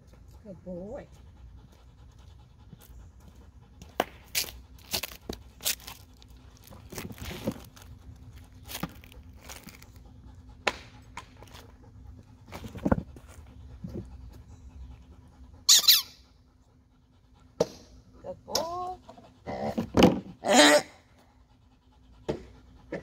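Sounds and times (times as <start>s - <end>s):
dog panting: 0.0s - 23.0s.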